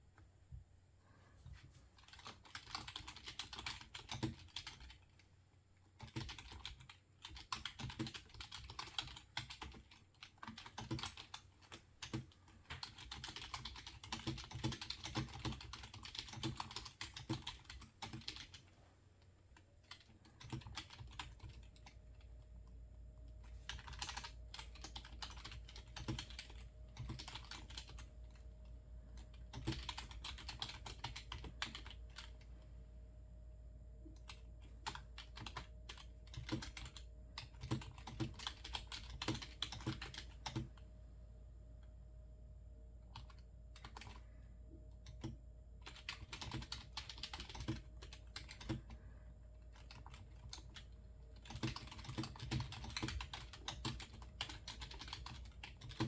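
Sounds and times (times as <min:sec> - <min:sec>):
low steady hum: 0:00.0 - 0:56.0
typing on computer keyboard: 0:02.0 - 0:05.2, 0:05.9 - 0:18.6, 0:19.8 - 0:32.5, 0:34.0 - 0:40.8, 0:43.0 - 0:56.0.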